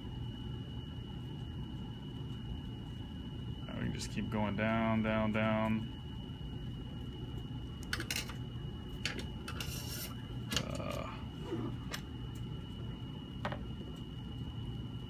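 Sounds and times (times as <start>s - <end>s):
steady low hum: 0.0s - 15.0s
thin steady high tone: 0.0s - 15.0s.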